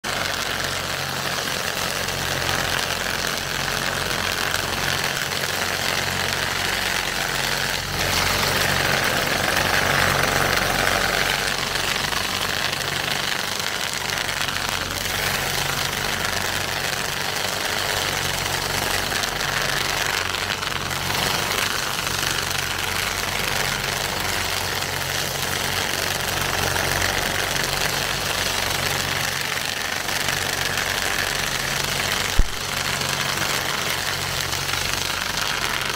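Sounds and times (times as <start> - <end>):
cultivator working soil: 0.0 - 35.9
tractor engine running: 0.0 - 35.9.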